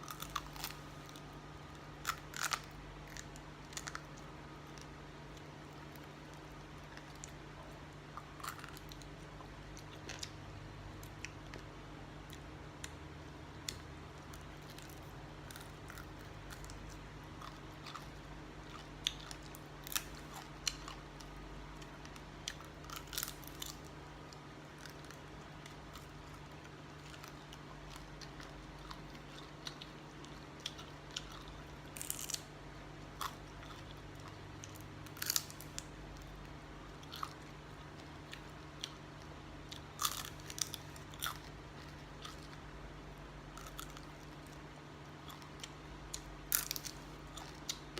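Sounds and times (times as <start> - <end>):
chewing crunches: 0.0 - 10.4, 13.6 - 42.7, 43.5 - 47.9
steady low hum: 0.0 - 47.9.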